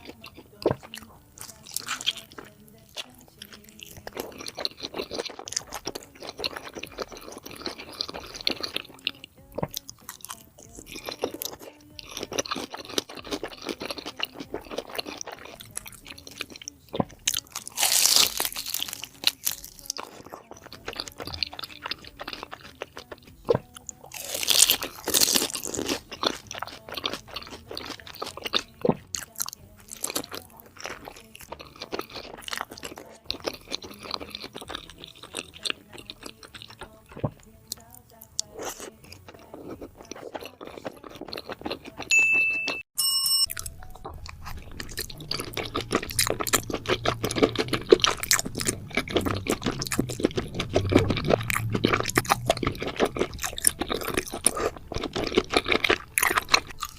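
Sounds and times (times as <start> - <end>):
wet chewing and crunching: 0.0 - 56.9.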